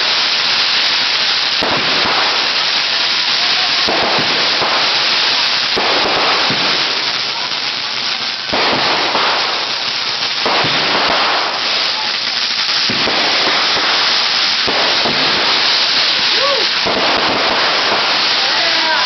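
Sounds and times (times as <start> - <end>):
firework bangs: 0.0 - 19.0
fireworks crackling: 0.0 - 19.0.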